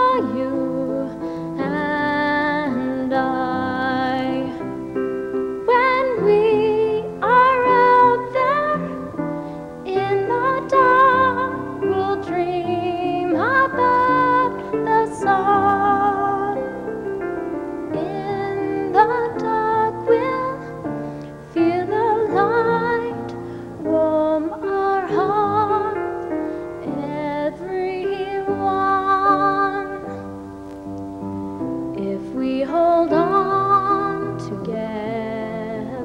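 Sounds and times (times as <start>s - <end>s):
woman singing: 0.0s - 5.0s, 5.6s - 30.5s, 31.9s - 36.0s
piano playing chords: 0.0s - 36.0s.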